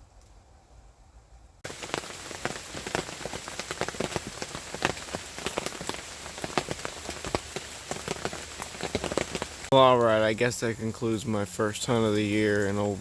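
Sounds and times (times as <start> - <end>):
rain pattering: 1.6 - 13.0.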